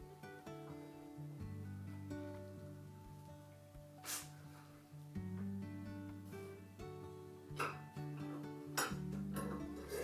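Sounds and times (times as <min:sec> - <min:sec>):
gentle acoustic guitar music: 0:00.0 - 0:10.0.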